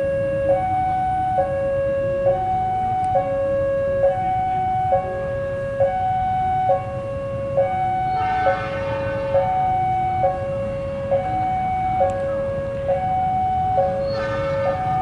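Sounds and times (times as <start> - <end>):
two-tone level-crossing alarm: 0.0 - 15.0.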